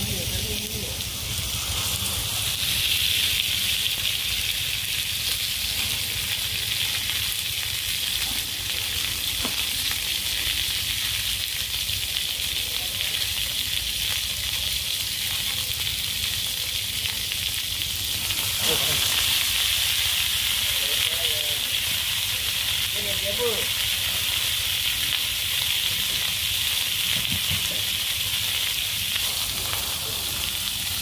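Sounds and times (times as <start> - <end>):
food frying sizzle: 0.0 - 31.0.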